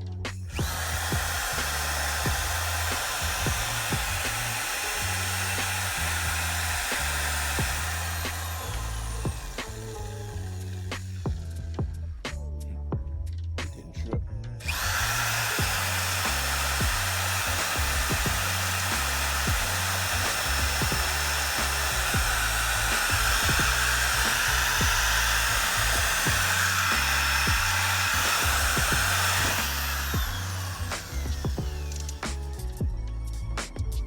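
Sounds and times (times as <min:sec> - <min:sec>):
background music with bass line: 0:00.0 - 0:34.0
electric drill running: 0:00.5 - 0:11.6, 0:14.6 - 0:32.8.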